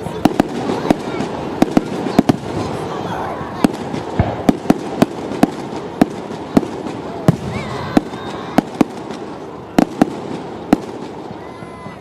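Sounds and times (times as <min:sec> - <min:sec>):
fireworks bursting bangs: 0:00.0 - 0:12.0
steady background noise: 0:00.0 - 0:12.0.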